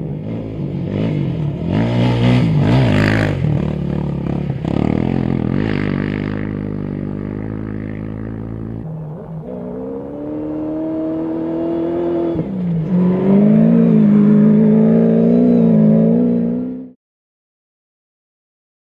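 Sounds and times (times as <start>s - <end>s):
buggy engine revving: 0.0s - 17.0s
quad engine: 0.0s - 17.0s.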